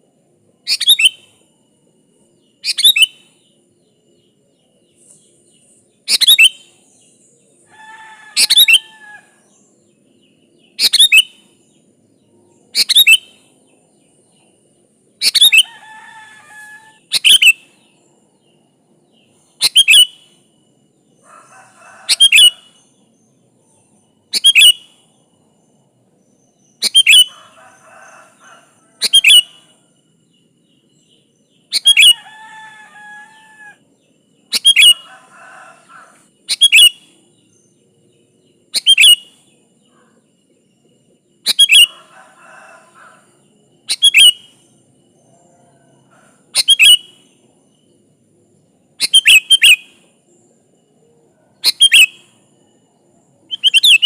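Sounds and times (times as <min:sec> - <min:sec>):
bulbul singing: 0:00.6 - 0:01.4, 0:02.5 - 0:03.6, 0:04.2 - 0:18.1, 0:19.1 - 0:29.8, 0:30.5 - 0:40.2, 0:41.4 - 0:50.6, 0:51.5 - 0:52.5, 0:53.3 - 0:54.0.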